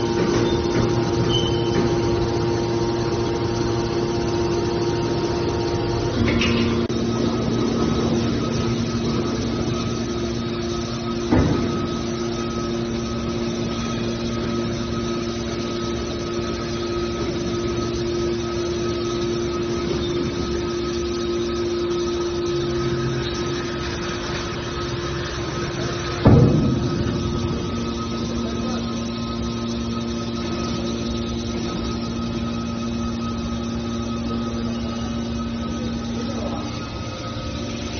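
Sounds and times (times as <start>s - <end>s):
hydraulic power unit humming: 0.0s - 37.9s.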